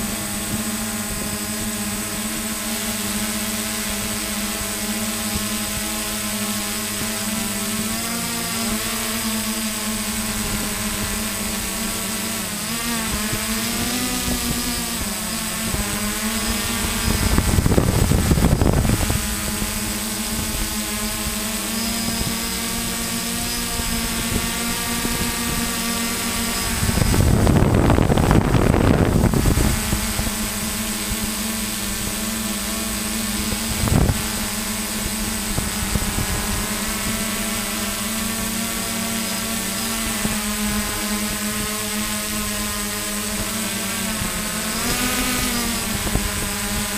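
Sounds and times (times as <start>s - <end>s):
drone propellers humming: 0.0s - 46.9s.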